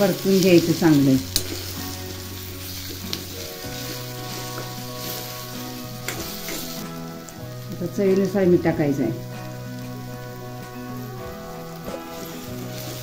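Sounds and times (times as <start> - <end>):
soft background music: 0.0 - 13.0
vegetables sizzling in a pan: 0.0 - 13.0.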